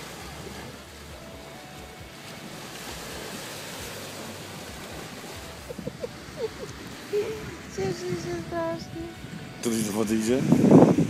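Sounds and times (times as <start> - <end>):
small waves washing on shore: 0.0 - 11.0
wind gusting over microphone: 0.0 - 11.0.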